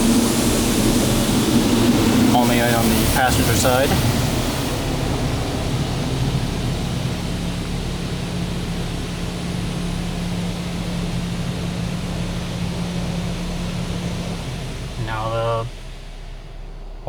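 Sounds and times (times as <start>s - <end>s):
steady low hum: 0.0s - 17.0s
water jets spraying on car: 0.0s - 17.0s.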